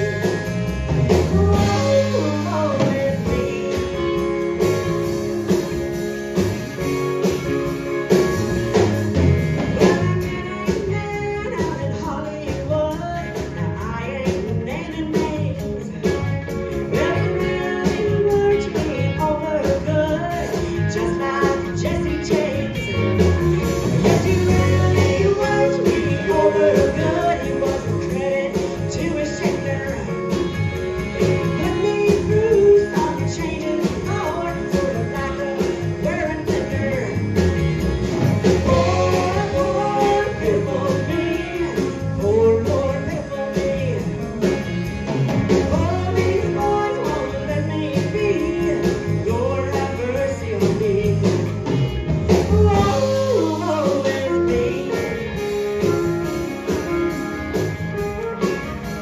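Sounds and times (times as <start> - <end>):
woman singing: 0.0 - 5.2, 9.6 - 30.6, 31.2 - 37.4, 38.5 - 44.7, 45.5 - 57.1
country-rock band playing: 0.0 - 59.0.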